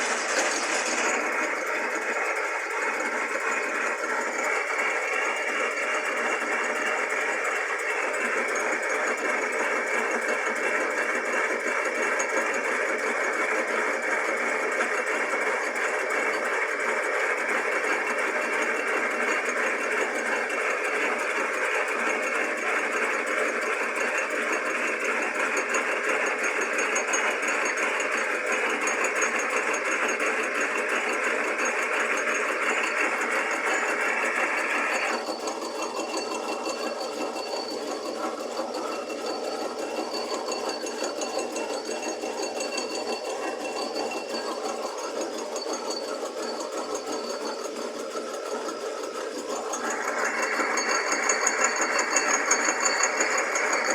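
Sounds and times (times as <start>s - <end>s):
milling machine whirring: 0.0s - 53.9s.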